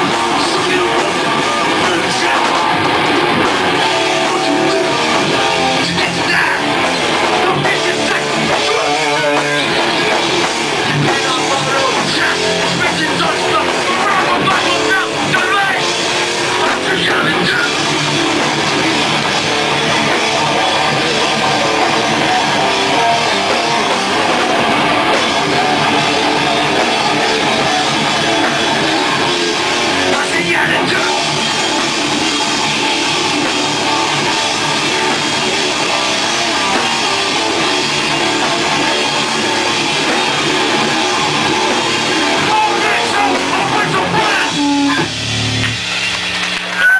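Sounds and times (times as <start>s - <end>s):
pounding drum kit: 0.0s - 46.7s
bass guitar: 0.0s - 46.9s
distorted electric guitars: 0.0s - 46.9s.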